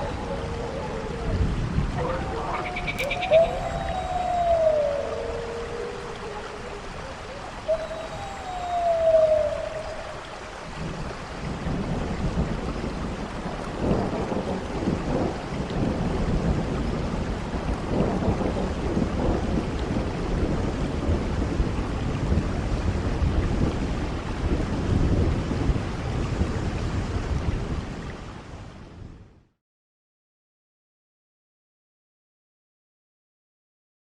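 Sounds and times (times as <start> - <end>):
low rolling thunder: 0.0 - 28.0
heavy rain: 0.0 - 29.5.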